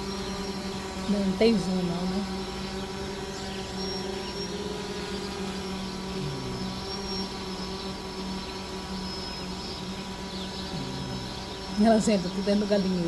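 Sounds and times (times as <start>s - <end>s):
faint chirps: 0.0s - 13.0s
insects trilling: 0.0s - 13.0s
low steady hum: 0.0s - 13.0s.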